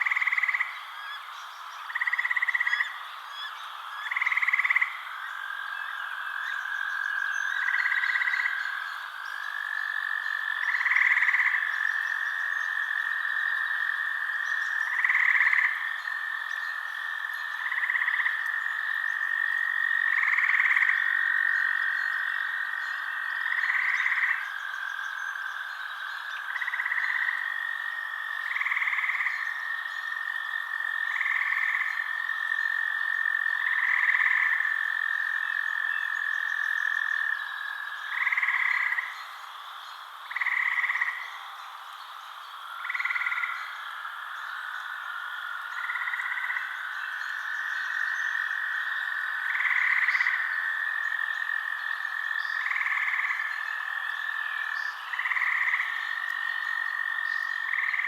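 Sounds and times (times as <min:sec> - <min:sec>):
frogs calling: 0:00.0 - 0:58.0.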